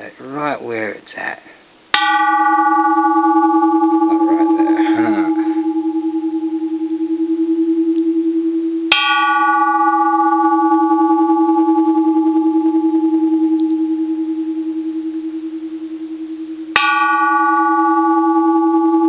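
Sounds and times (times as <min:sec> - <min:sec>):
bell struck on rim: 0:02.0 - 0:15.5, 0:16.7 - 0:19.0
temple bell humming: 0:02.0 - 0:19.0.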